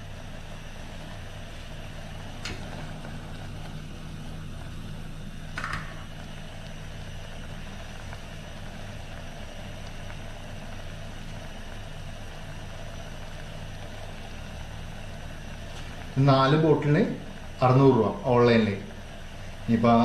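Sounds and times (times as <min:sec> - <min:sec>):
low hum: 0:00.0 - 0:17.6.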